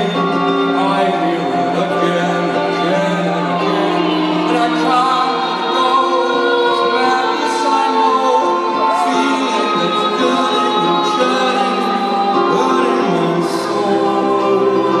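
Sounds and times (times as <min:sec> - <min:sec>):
people singing: 0:00.0 - 0:15.0
slow long-held chords: 0:00.0 - 0:15.0.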